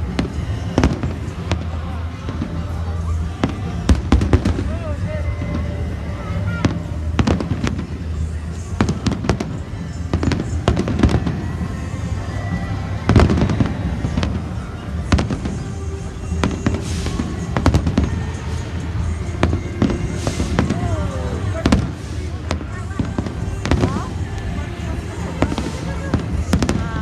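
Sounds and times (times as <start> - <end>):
background music: 0.0 - 27.0
fireworks bangs and crackling: 0.0 - 27.0.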